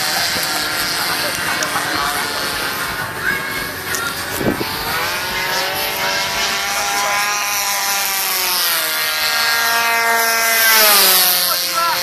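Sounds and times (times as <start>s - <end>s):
model plane engine buzzing: 0.0s - 12.0s.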